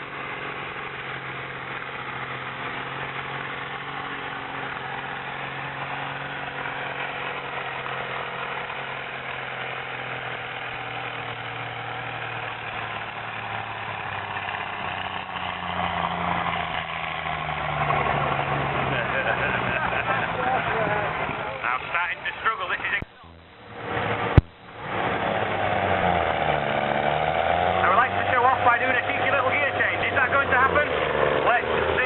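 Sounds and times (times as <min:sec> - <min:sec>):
tractor engine under load: 0:00.0 - 0:32.0.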